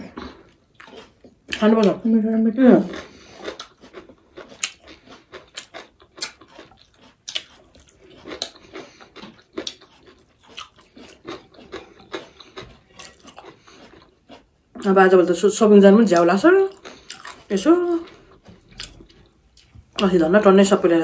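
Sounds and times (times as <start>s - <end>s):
chewing with mouth clicks: 0.1s - 2.1s, 2.8s - 20.2s.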